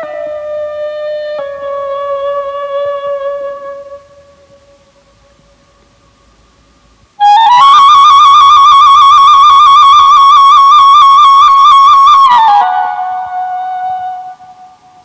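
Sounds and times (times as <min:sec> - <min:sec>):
solo woodwind melody: 0:00.0 - 0:05.2, 0:07.2 - 0:15.0.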